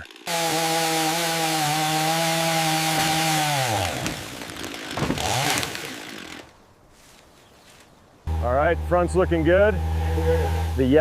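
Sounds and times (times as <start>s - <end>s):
chainsaw running: 0.0s - 6.5s, 8.3s - 11.0s.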